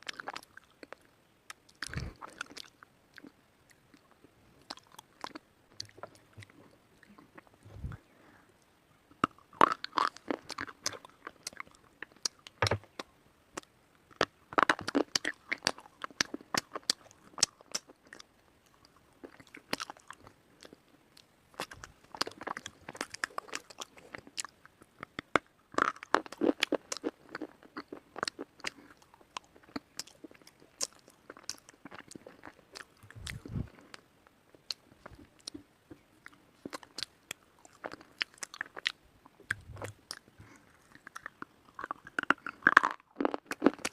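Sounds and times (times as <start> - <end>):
quiet chewing: 0.0 - 43.9.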